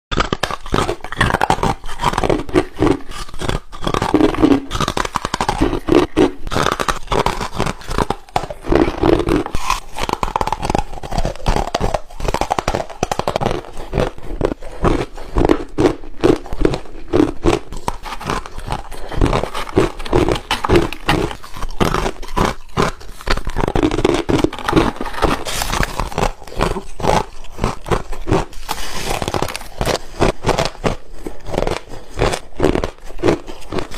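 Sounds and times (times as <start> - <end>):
ice being crunched: 0.1 - 33.9.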